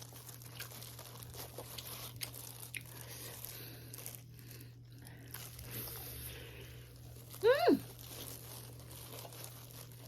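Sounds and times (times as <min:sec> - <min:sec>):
soft chewing and bites: 0:00.0 - 0:10.0.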